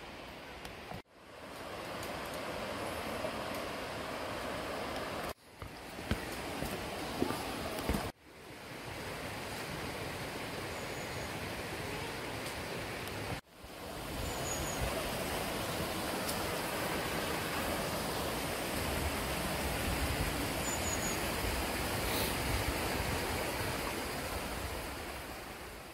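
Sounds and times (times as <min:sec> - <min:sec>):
mountain stream rushing over boulders: 0:00.0 - 0:25.9.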